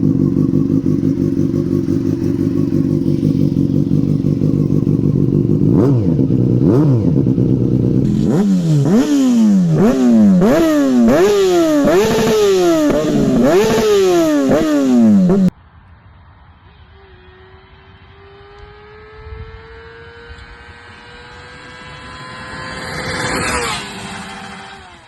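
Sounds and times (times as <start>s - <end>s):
motorcycle engine revving: 0.0s - 15.6s, 16.7s - 25.0s.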